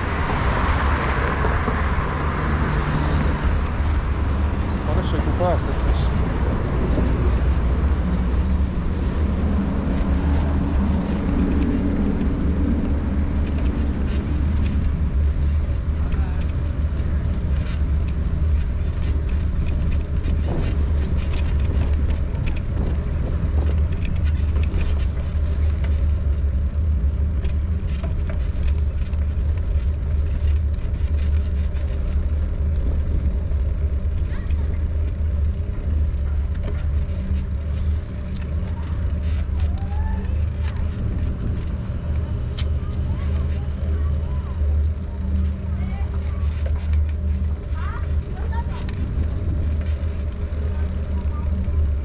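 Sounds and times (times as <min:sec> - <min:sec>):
bicycle clicks and rattles: 0:00.0 - 0:52.0
bicycle rolling over paving: 0:00.0 - 0:52.0.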